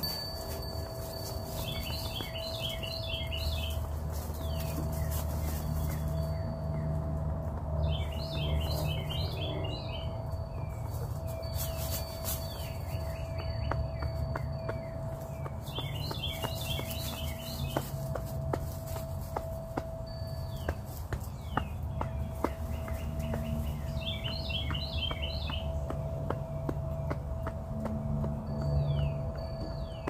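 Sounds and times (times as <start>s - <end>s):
songbird chirping song: 0.0s - 30.0s.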